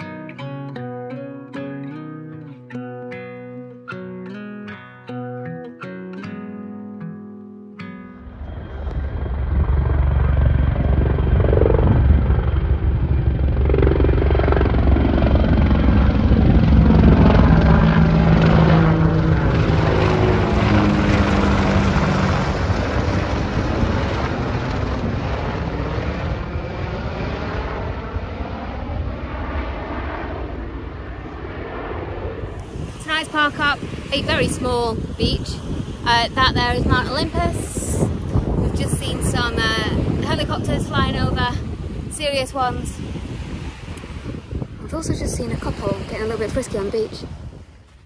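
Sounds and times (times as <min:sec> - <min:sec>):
helicopter flying overhead: 0:00.0 - 0:04.4, 0:08.0 - 0:48.0.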